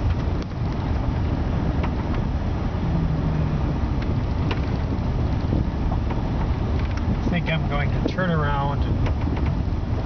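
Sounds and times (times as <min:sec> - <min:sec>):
road and engine rumble: 0:00.0 - 0:10.0.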